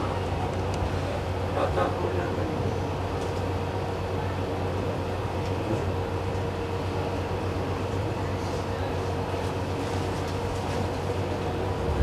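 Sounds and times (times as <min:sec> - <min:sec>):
rumbling background noise: 0:00.0 - 0:12.0.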